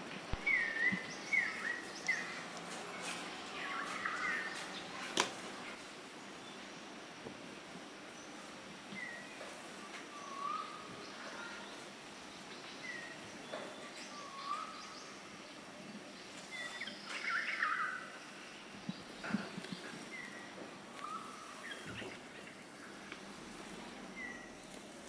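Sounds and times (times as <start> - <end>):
faint steady hiss: 0.0 - 25.0
small birds chirping: 0.3 - 7.2, 8.0 - 25.0.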